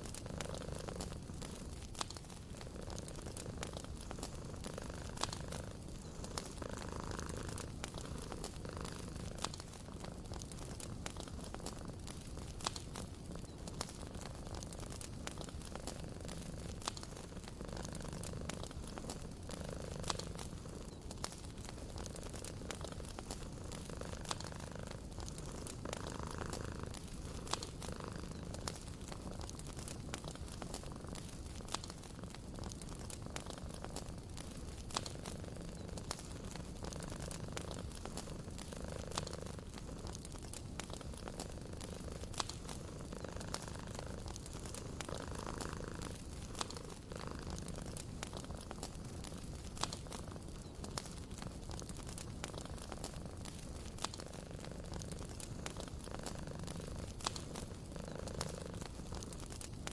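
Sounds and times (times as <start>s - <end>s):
cat purring: 0.0s - 59.9s
wood fire crackling: 0.0s - 59.9s.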